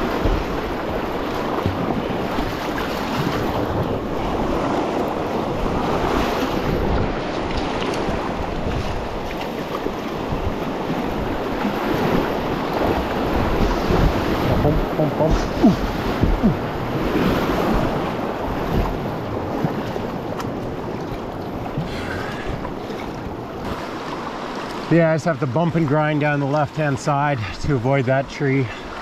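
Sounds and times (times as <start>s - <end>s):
whitewater rushing: 0.0s - 29.0s.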